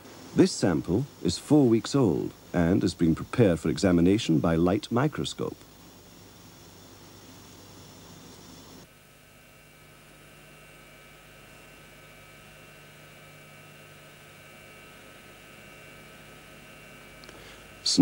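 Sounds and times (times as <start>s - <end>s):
light hiss: 0.0s - 8.9s, 9.9s - 18.0s
faint electrical hum: 0.0s - 18.0s.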